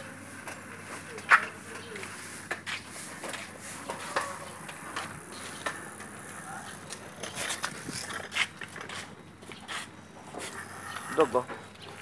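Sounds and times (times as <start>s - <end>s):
bicycles rolling over concrete: 0.0s - 12.0s.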